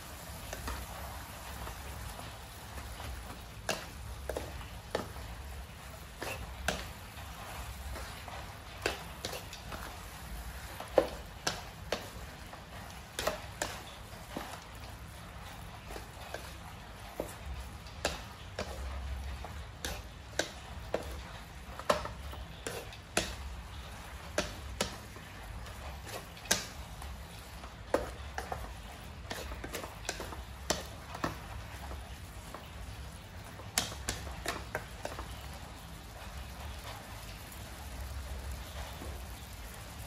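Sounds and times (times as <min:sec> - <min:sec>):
faint sizzle: 0:00.0 - 0:40.0
spatula scraping a metal wok: 0:00.2 - 0:32.8.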